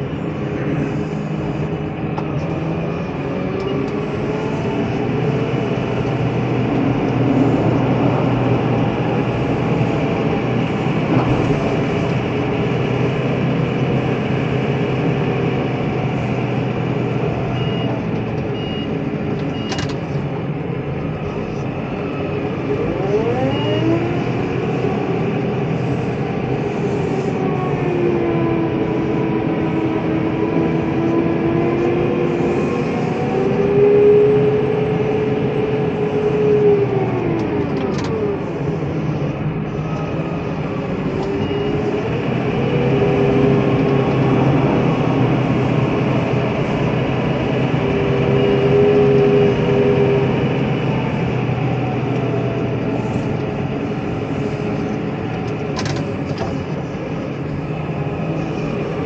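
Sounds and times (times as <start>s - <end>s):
tractor engine running: 0.0s - 23.3s, 24.1s - 59.0s
snow plough rushing noise: 0.0s - 59.0s.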